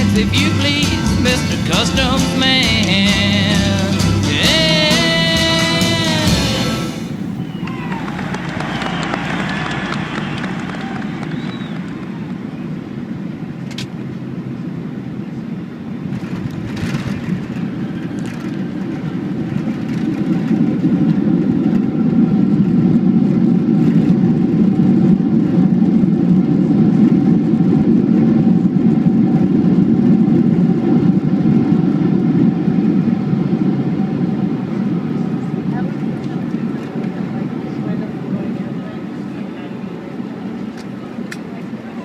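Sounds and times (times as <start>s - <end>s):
jet engine and airflow rumble: 4.2s - 42.0s.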